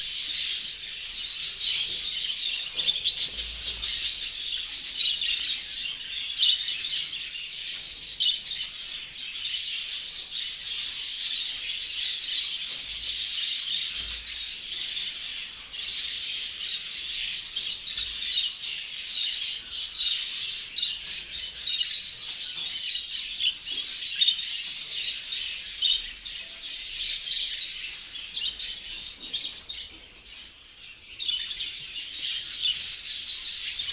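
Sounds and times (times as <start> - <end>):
budgerigars chattering and warbling: 0.0 - 33.9.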